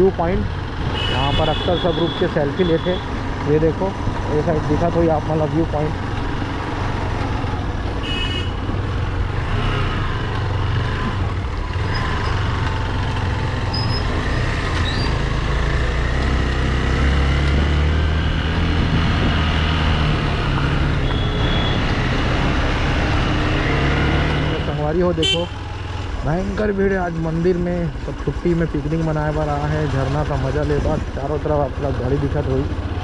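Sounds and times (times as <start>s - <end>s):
motorcycle engine rumbling: 0.0s - 33.0s
wind and road noise: 0.0s - 33.0s.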